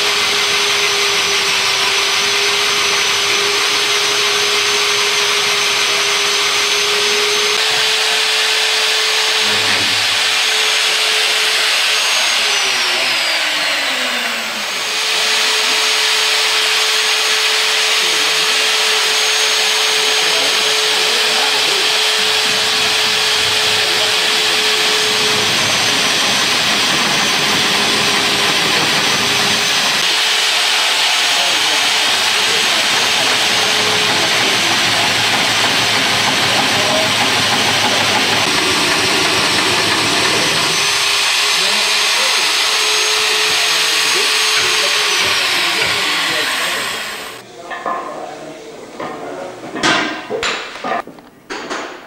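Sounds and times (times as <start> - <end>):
drill motor whining drone: 0.0 - 47.4.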